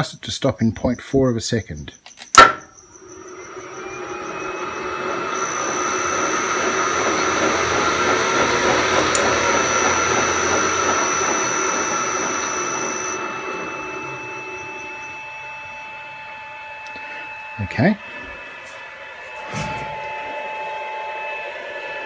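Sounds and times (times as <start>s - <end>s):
lathe motor whirring and whining: 2.7s - 22.0s.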